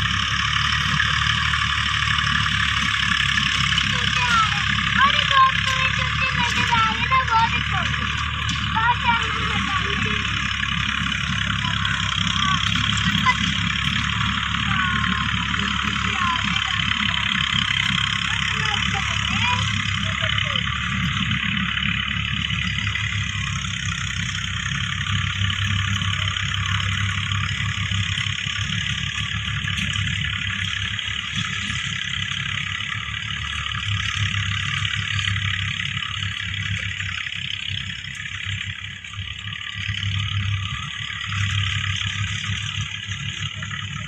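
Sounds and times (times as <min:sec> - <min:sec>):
motor running with hum: 0:00.0 - 0:44.0.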